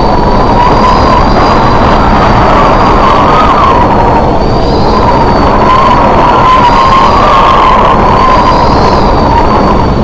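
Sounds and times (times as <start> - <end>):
storm wind howling: 0.0 - 10.0
wavering wind whistle: 0.0 - 10.0.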